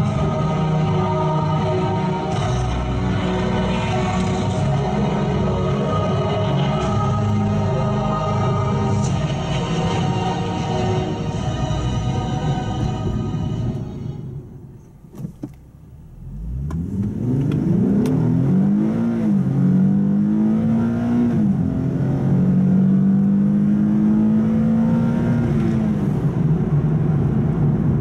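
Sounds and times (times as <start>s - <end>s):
car engine accelerating hard: 0.0s - 13.8s, 14.6s - 28.0s.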